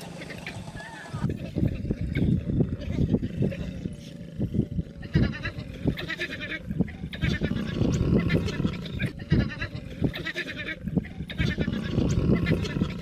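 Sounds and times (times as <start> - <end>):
low uneven rumbling: 0.0 - 13.0.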